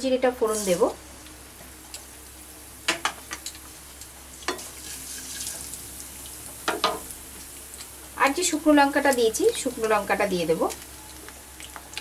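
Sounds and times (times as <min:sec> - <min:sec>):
seeds sizzling in hot oil: 0:00.4 - 0:12.0.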